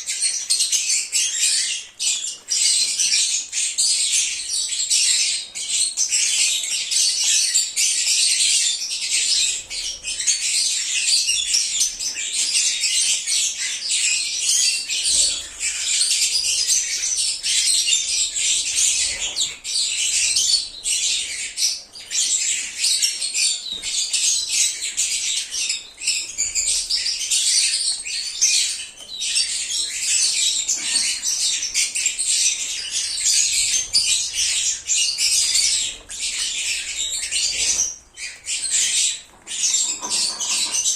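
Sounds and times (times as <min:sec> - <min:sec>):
lovebirds chattering: 0:00.0 - 0:40.9.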